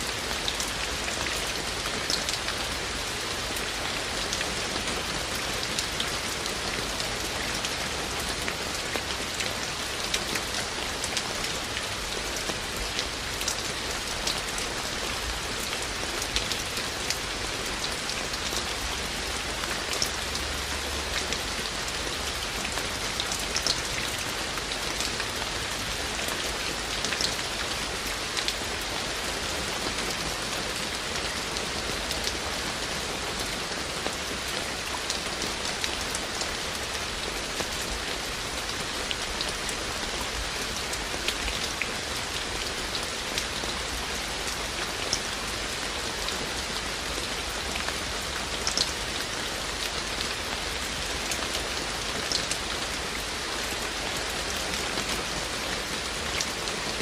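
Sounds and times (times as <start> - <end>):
raindrops ticking on surfaces: 0.0 - 57.0.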